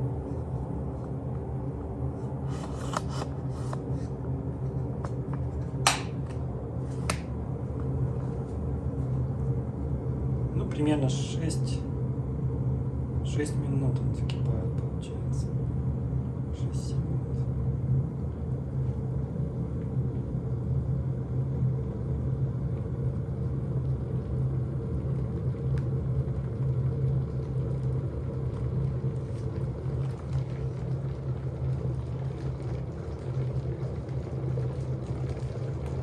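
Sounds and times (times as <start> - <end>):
electric kettle heating water: 0.0 - 36.0.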